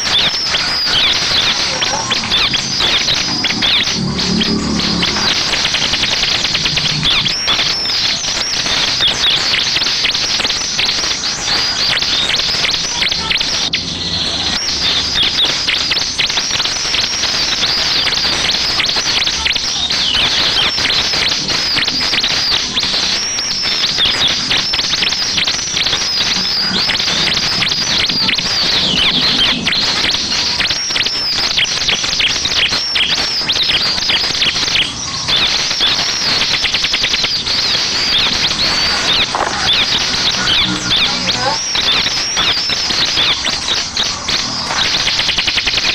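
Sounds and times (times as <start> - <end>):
bird song of rapid chirps and trills: 0.0 - 45.9.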